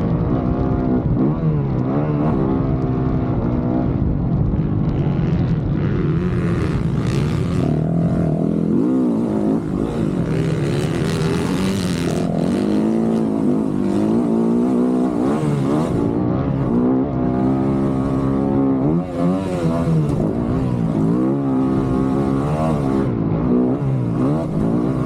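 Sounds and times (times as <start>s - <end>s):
dirt bike engine revving: 0.0s - 4.0s, 4.6s - 25.0s.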